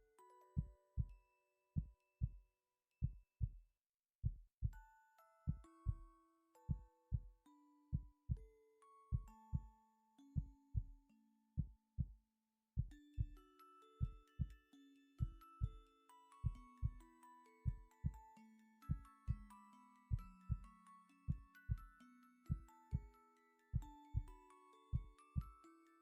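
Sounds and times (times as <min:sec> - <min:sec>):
soft bell-like music: 0:00.0 - 0:03.5, 0:04.6 - 0:12.1, 0:12.8 - 0:26.0.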